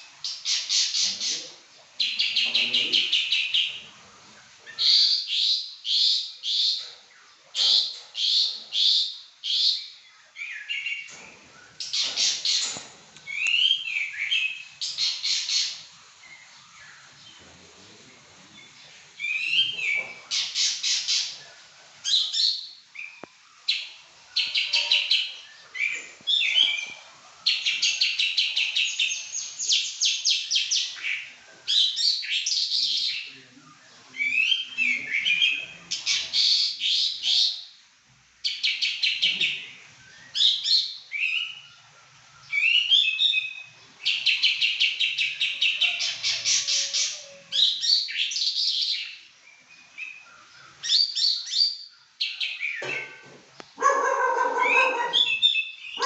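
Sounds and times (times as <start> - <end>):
songbird singing: 0.0 - 37.8, 38.4 - 56.0.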